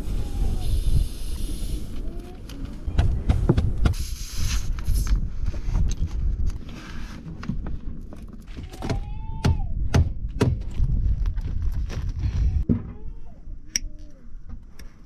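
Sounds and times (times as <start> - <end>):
wind on microphone: 0.0 - 13.8.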